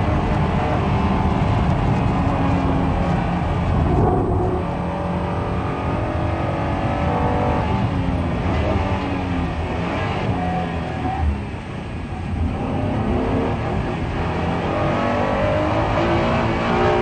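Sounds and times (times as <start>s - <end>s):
car engine pulling hard: 0.0s - 17.0s
tyre and road noise: 0.0s - 17.0s.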